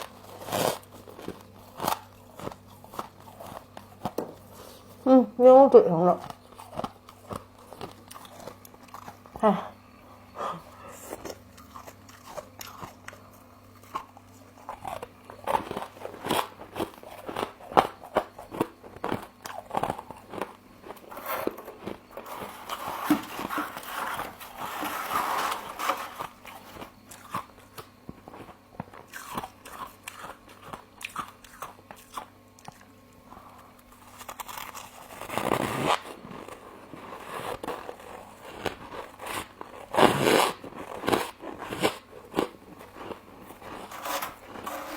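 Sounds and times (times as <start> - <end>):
crunchy biting and chewing: 0.0 - 5.0, 6.2 - 44.9.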